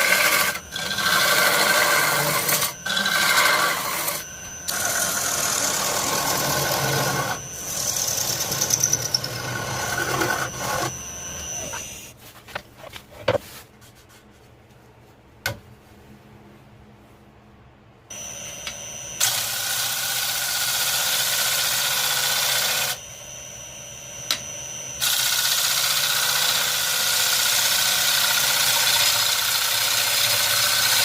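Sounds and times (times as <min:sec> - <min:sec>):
power tool whining on wood: 0:00.0 - 0:12.1, 0:18.1 - 0:31.0.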